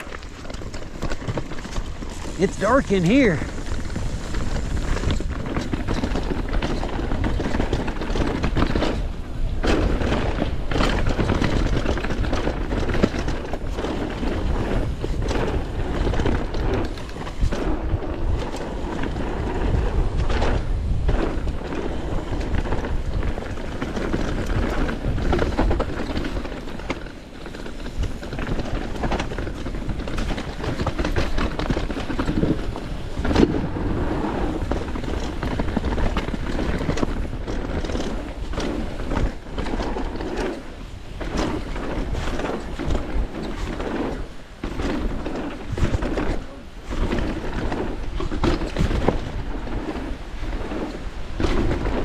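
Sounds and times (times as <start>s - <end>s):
bike rattling over bumps: 0.0s - 52.0s
bike tyre noise: 0.0s - 52.0s
wind rumble on microphone: 0.0s - 52.0s.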